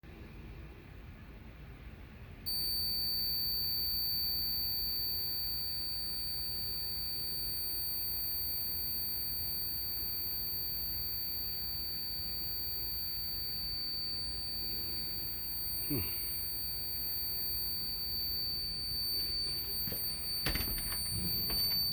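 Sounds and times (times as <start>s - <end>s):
fire alarm high-pitched tone: 2.5s - 21.9s.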